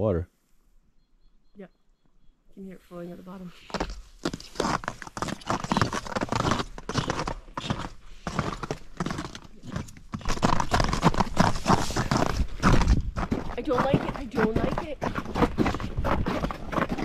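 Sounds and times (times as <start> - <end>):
footsteps crunching on snow: 3.0 - 17.0.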